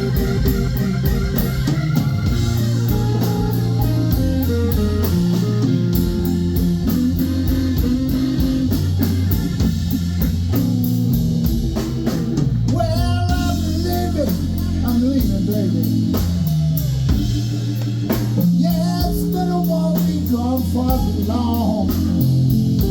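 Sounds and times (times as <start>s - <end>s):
blues band playing: 0.0s - 22.9s
electric guitar lines: 0.0s - 22.9s.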